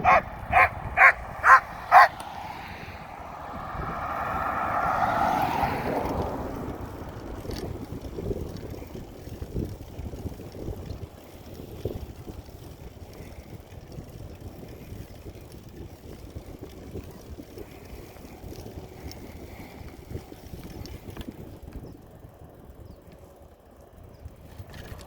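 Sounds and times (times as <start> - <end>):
wind rushing over microphone: 0.0 - 23.1
bicycle clicks and rattles: 0.0 - 25.0.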